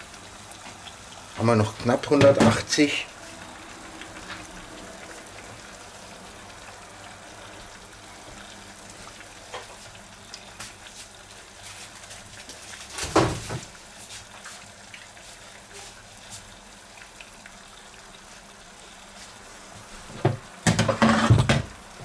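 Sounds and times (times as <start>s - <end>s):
deep-frying oil sizzling and bubbling: 0.0s - 22.0s.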